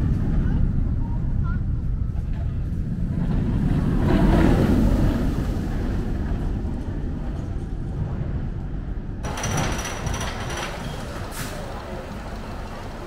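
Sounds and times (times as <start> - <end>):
roller coaster wheels rumbling on track: 0.0 - 13.0.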